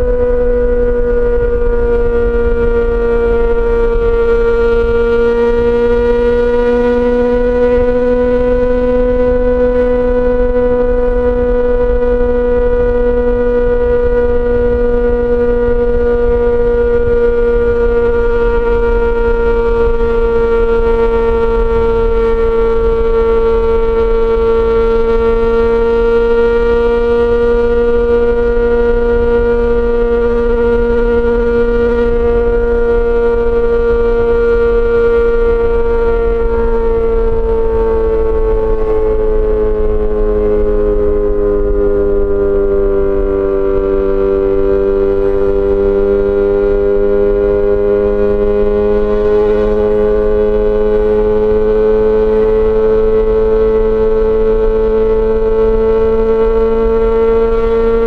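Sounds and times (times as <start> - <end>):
low rumble: 0.0 - 57.8
motorcycle engine at high revs: 0.0 - 58.0.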